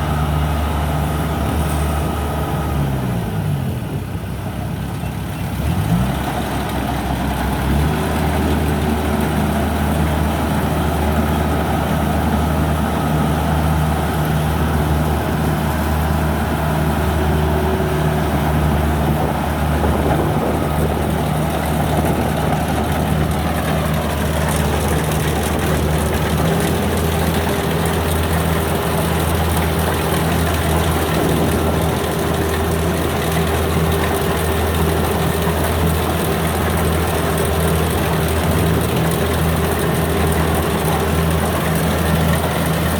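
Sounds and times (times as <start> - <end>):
combine harvester diesel engine: 0.0 - 42.9.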